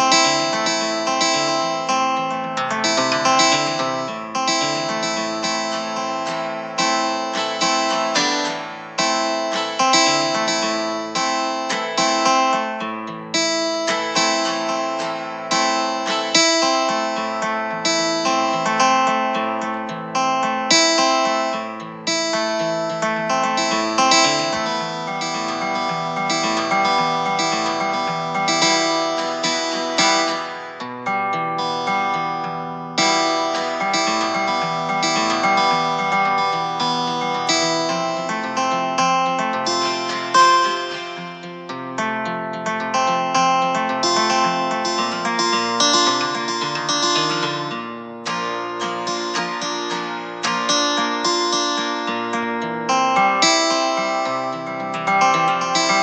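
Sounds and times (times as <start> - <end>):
guitar chords: 0.0 - 56.0.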